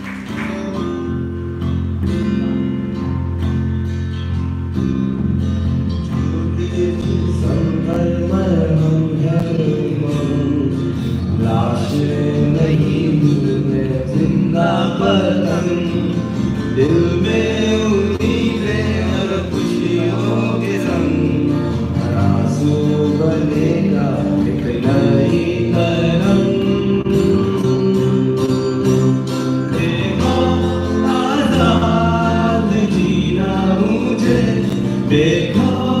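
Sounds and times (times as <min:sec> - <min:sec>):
acoustic guitar: 0:00.0 - 0:36.0
electric bass guitar: 0:00.0 - 0:36.0
person singing: 0:06.0 - 0:36.0.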